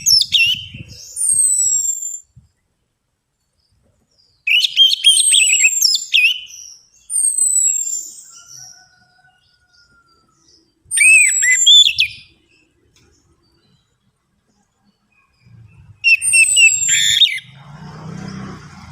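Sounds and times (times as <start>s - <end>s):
thrush singing whistled notes: 0.0s - 2.4s, 4.4s - 13.9s, 14.9s - 18.9s.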